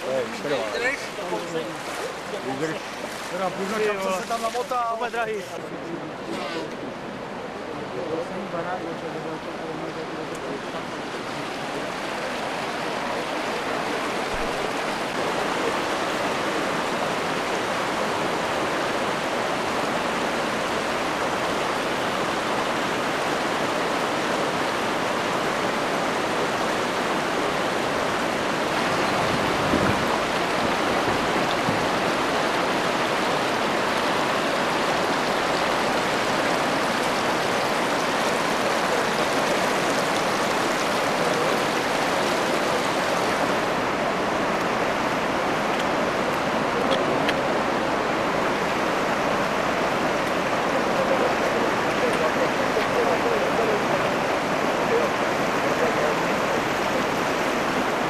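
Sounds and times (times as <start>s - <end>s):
river in flood rushing: 0.0s - 58.0s.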